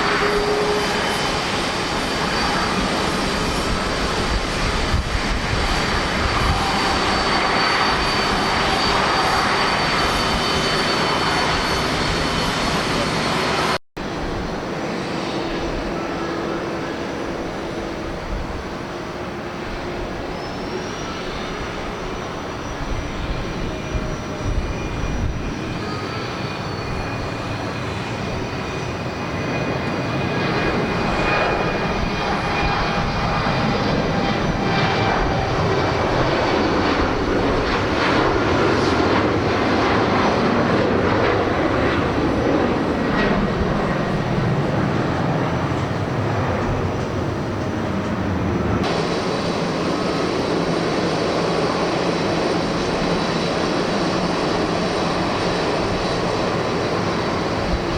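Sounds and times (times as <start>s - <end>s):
jet engines roaring: 0.0s - 57.9s
wind buffeting microphone: 0.0s - 57.9s.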